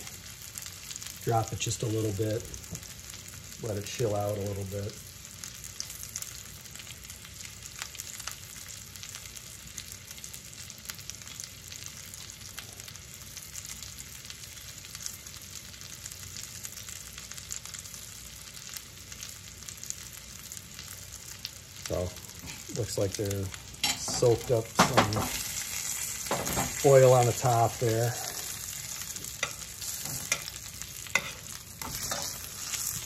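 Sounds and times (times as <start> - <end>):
burger patties sizzling in fat: 0.0 - 33.0.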